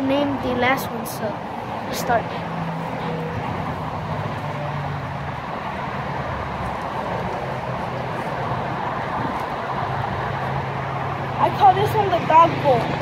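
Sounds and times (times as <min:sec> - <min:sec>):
constant rushing noise: 0:00.0 - 0:13.0.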